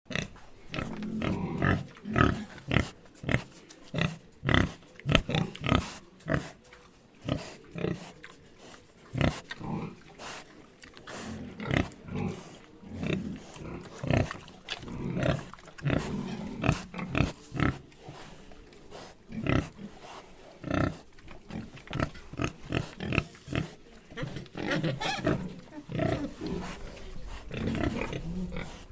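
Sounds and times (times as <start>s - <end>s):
pigs grunting and snorting: 0.1s - 28.9s.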